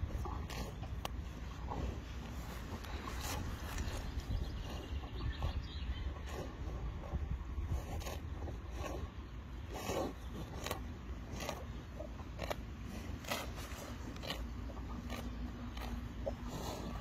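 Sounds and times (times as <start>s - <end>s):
cow tearing grass: 0.0s - 17.0s.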